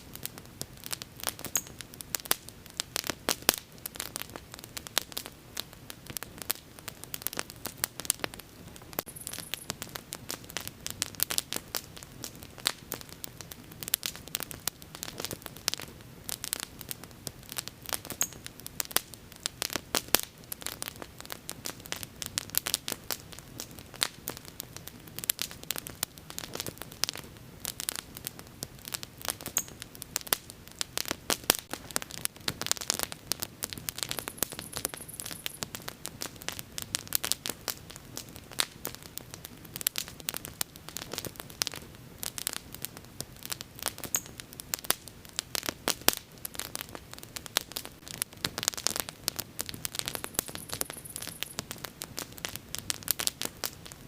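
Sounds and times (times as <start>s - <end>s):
bonfire pops and snaps: 0.0s - 54.0s
low rush of flames: 0.0s - 54.0s.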